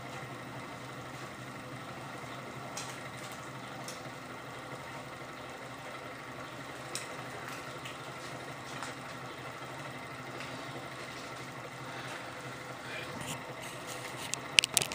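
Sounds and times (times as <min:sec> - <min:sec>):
small engine running steadily: 0:00.0 - 0:14.9.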